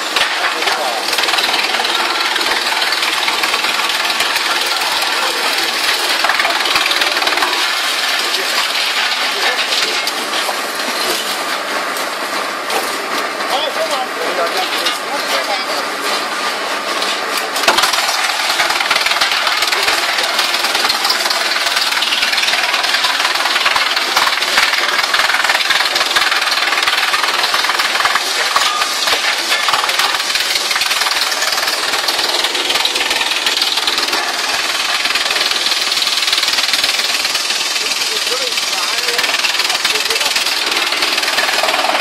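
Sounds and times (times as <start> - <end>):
wood chipper chipping branches: 0.0 - 42.0.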